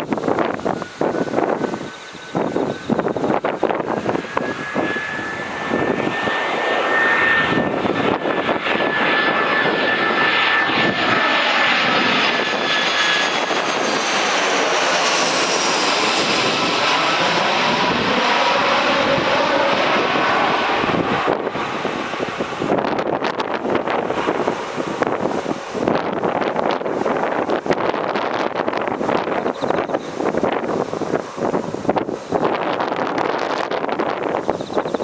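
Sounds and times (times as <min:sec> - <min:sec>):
jet engines rushing and whining: 0:00.0 - 0:35.0.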